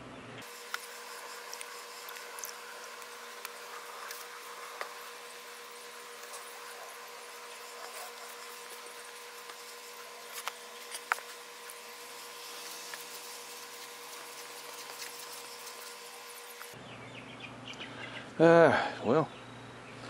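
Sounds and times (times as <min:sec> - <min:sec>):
steady hiss: 0:00.4 - 0:16.8.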